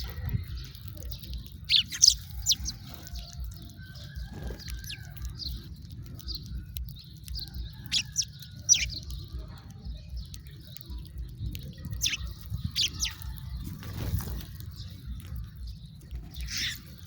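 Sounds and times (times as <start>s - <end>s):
sparrows chirping: 0.0s - 17.0s
steady low rumble: 0.0s - 17.0s.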